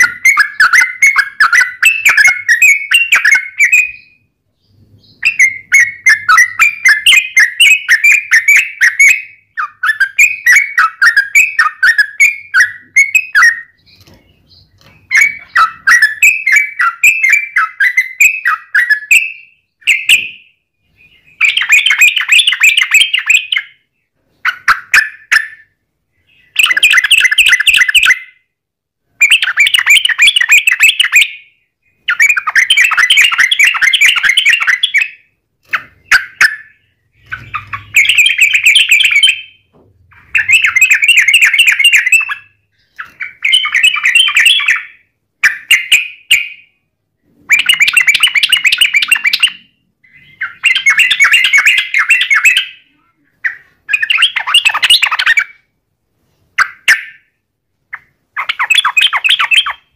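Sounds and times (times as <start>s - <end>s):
bulbul chattering song: 0.0s - 28.5s, 29.1s - 46.8s, 47.4s - 55.7s, 56.6s - 59.9s.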